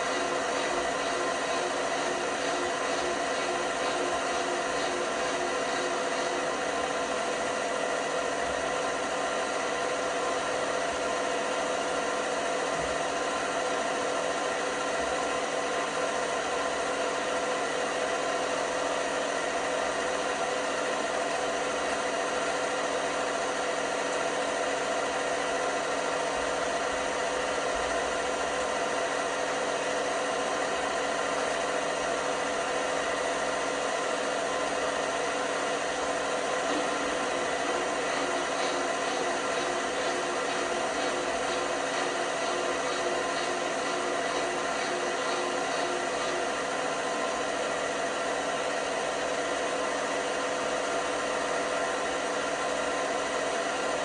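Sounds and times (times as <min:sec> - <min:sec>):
washing machine motor whir: 0:00.0 - 0:54.0.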